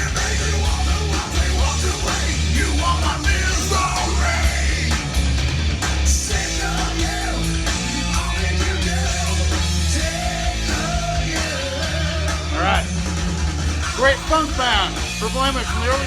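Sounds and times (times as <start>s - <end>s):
loud rock music: 0.0s - 16.0s.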